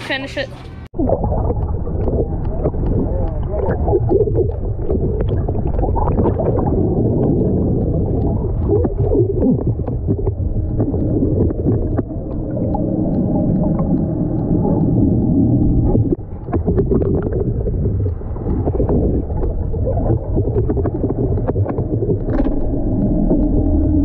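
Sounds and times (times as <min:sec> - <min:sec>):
boat engines rumbling underwater: 0:00.1 - 0:24.0
water bubbling: 0:00.9 - 0:24.0
clicks and crackles: 0:01.0 - 0:24.0.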